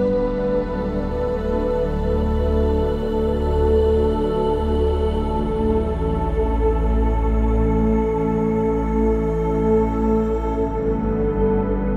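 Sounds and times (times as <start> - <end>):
ambient new-age music: 0.0 - 11.9.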